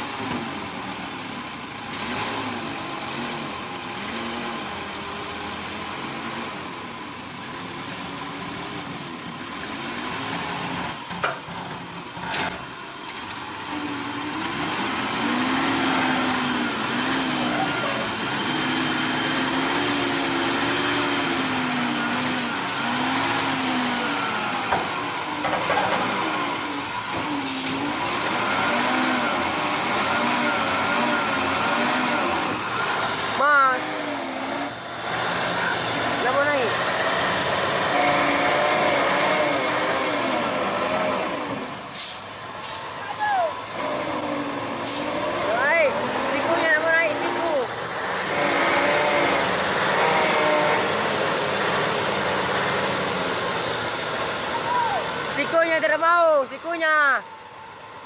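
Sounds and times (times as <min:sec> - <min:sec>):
truck engine under load: 0:00.0 - 0:58.0.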